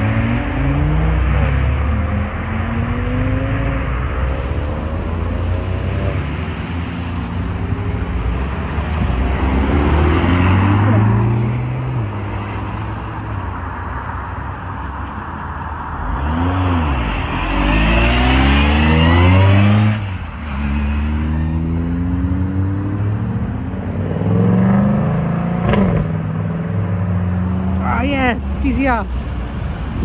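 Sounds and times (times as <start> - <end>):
car engines revving and accelerating: 0.0 - 30.0.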